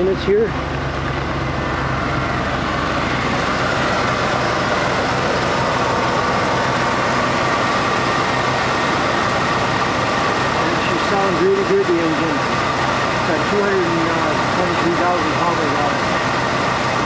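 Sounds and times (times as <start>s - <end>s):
heater fan blowing: 0.0s - 17.0s
truck engine idling: 0.0s - 17.0s.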